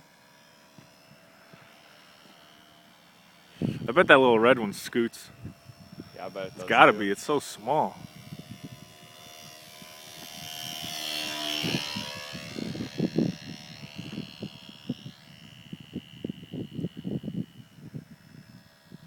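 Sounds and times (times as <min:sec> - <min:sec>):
model airplane motor whine: 0:00.0 - 0:19.0.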